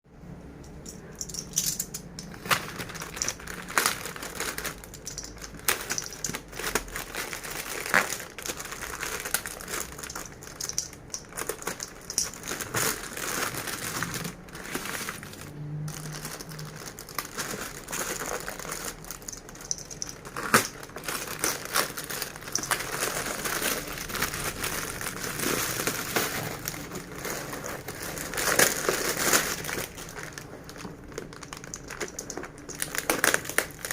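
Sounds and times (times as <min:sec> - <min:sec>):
packaging crinkling and rustling: 0:00.8 - 0:33.9.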